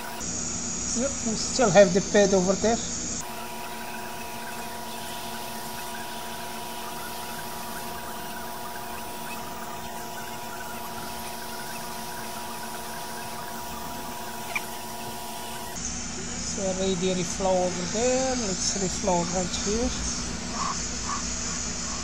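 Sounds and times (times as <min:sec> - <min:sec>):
hot-air station blowing: 0:00.0 - 0:22.0
steady multi-tone hum: 0:00.0 - 0:22.0.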